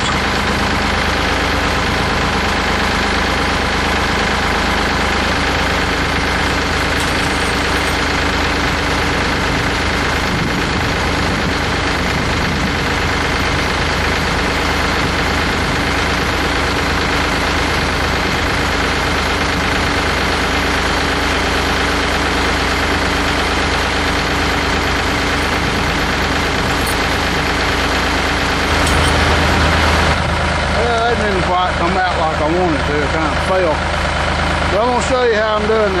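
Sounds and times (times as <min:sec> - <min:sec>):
tractor engine idling: 0:00.0 - 0:36.0.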